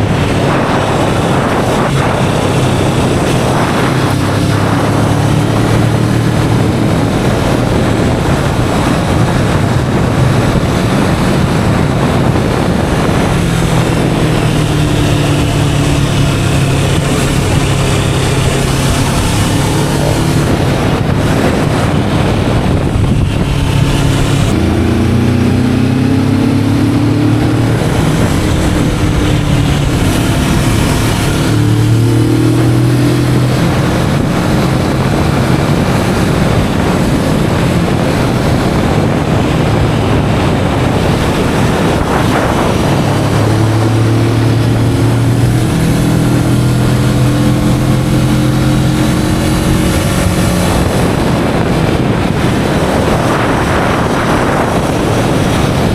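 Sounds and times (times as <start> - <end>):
motorcycle engine accelerating: 0.0 - 55.9
wind buffeting microphone: 0.0 - 55.9.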